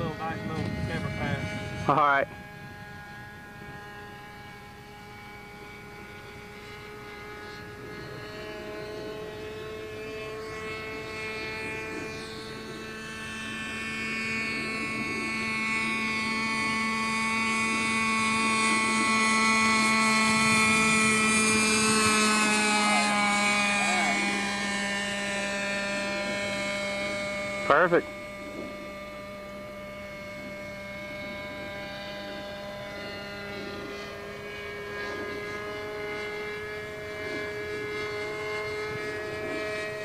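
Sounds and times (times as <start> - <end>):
model airplane engine buzzing: 0.0 - 40.0.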